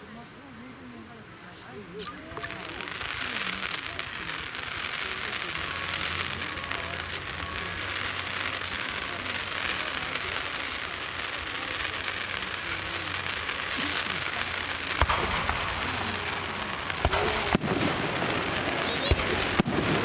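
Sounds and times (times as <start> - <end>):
fireworks crackling: 0.0 - 20.0
firework bangs: 1.7 - 20.0.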